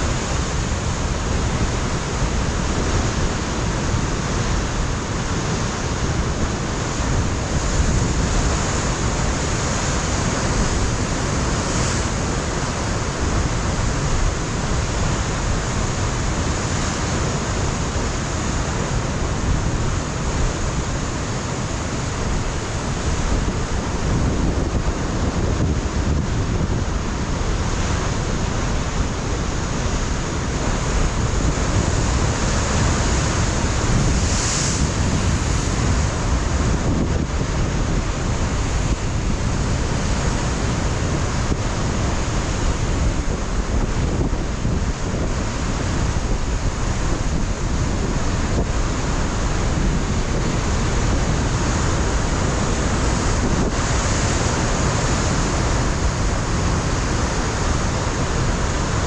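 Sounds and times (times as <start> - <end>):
ocean surf breaking on rocks: 0.0 - 59.0
wind buffeting microphone: 0.0 - 59.0.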